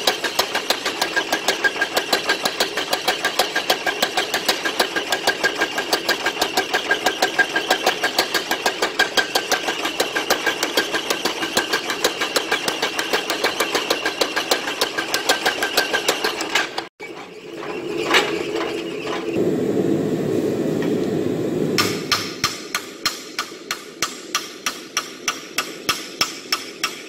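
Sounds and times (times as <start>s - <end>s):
power hammer pounding hot steel: 0.0s - 16.9s, 21.7s - 27.0s.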